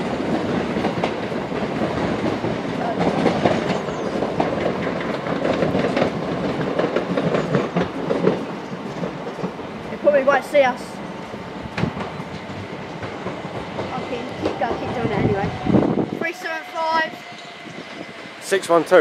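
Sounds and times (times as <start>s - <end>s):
wheels clicking over rail joints: 0.0s - 15.7s
electric train running: 0.0s - 19.0s.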